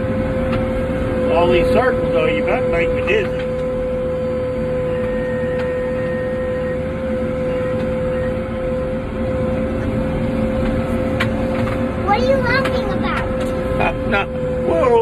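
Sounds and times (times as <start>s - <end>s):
backhoe diesel engine running: 0.0s - 15.0s
steady whine: 0.0s - 15.0s.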